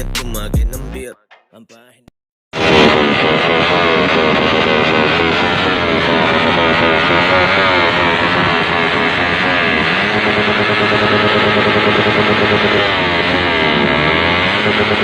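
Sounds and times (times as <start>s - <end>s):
motorcycle engine revving: 2.6s - 15.0s.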